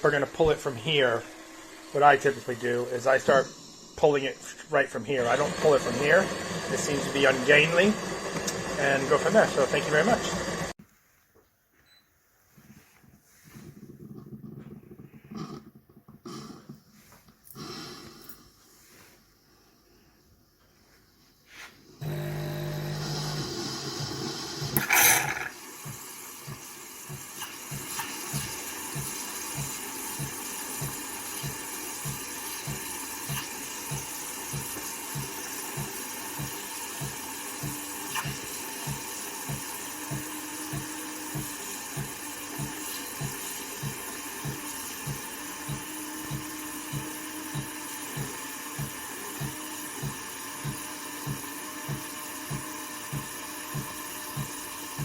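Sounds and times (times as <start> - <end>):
coffee machine pump pulsing: 0.0 - 10.8, 13.4 - 16.8, 22.0 - 55.0.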